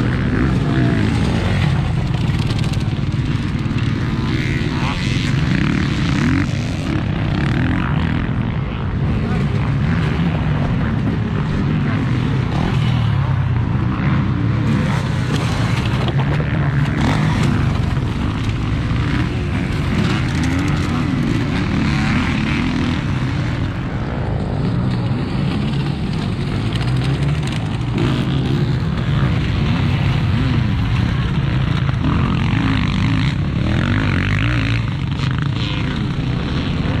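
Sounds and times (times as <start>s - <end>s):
motocross bike engines revving: 0.0s - 37.0s.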